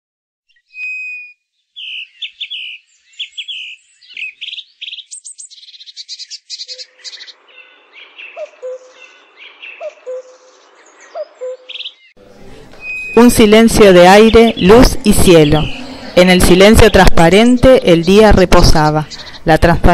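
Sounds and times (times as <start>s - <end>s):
birds singing: 0.5s - 19.9s.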